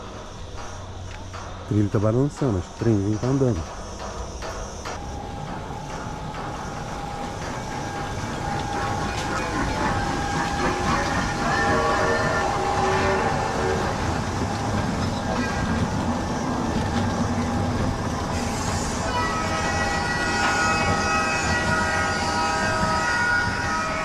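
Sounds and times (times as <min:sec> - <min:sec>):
coaster carts rumbling on steel rail: 0:00.0 - 0:24.0.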